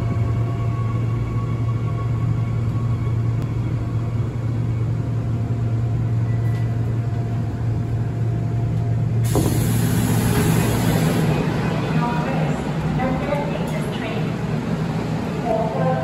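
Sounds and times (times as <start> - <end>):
subway train low hum: 0.0 - 16.0.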